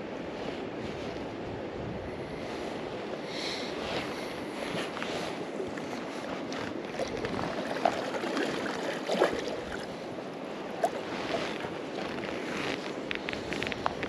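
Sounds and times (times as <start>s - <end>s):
river water gurgling: 2.2s - 14.0s.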